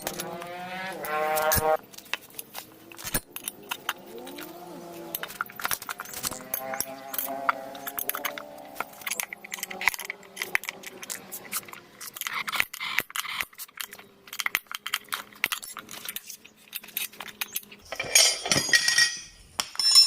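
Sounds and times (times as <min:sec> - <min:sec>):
hand tools clinking on metal: 0:00.0 - 0:20.0.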